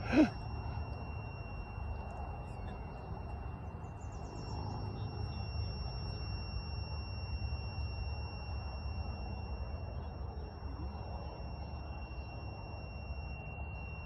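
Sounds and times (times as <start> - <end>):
faint bird chirps: 0.0 - 14.0
faint high-pitched tone: 0.0 - 14.0.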